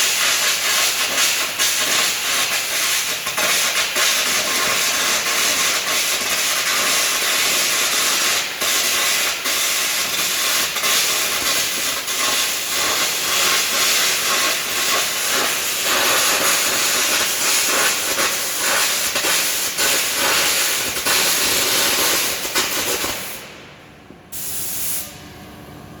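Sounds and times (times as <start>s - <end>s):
electric arc crackling: 0.0s - 23.5s.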